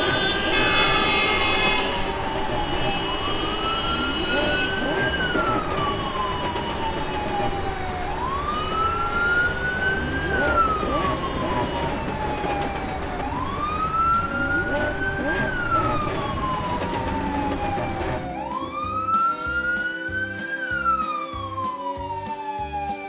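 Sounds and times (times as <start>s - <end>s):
wailing siren: 0.0s - 23.0s.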